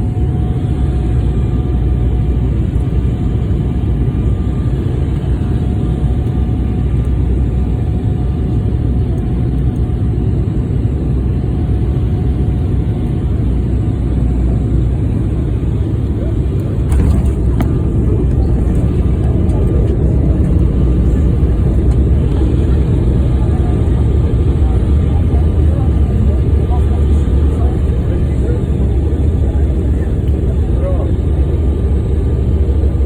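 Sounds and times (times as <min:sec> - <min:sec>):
jet engine and airflow rumble: 0:00.0 - 0:33.0.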